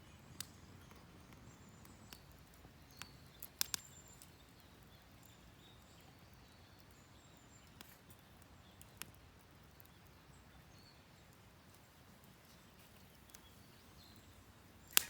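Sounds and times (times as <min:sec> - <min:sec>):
low background hiss: 0:00.0 - 0:15.0
faint sharp clicks: 0:00.1 - 0:06.0, 0:06.7 - 0:10.4, 0:11.2 - 0:15.0.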